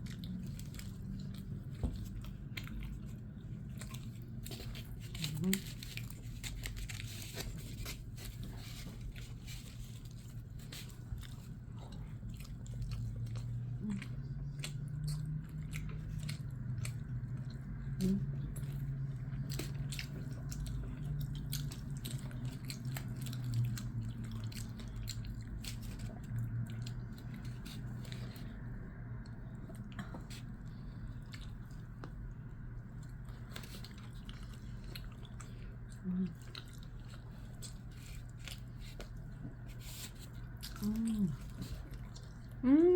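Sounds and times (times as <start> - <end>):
low steady hum: 0.0 - 42.9.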